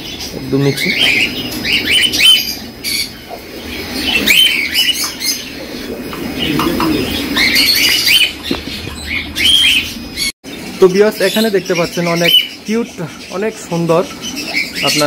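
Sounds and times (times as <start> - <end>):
caged birds chirping and squawking: 0.0 - 15.0.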